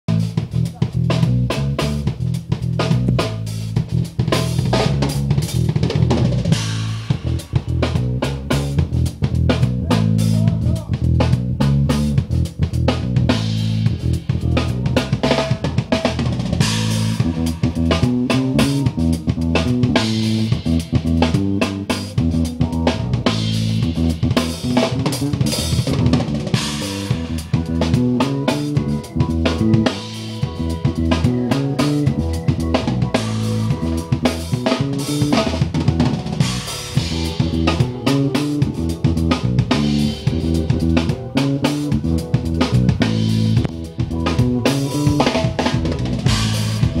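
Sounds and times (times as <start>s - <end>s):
electric bass guitar: 0.0s - 47.0s
drum kit beat: 0.1s - 47.0s.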